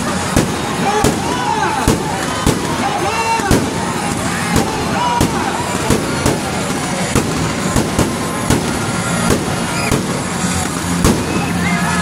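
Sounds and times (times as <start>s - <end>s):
fireworks bangs: 0.0s - 12.0s
steady background din: 0.0s - 12.0s.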